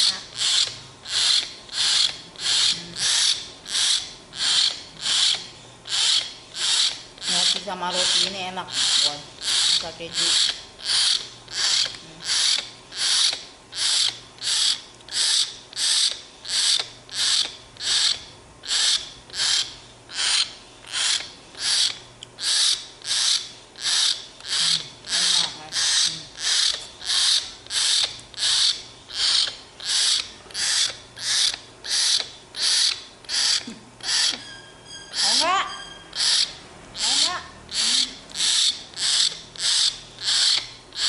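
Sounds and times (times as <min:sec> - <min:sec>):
young myna hissing begging calls: 0:00.0 - 0:34.4, 0:36.2 - 0:41.0.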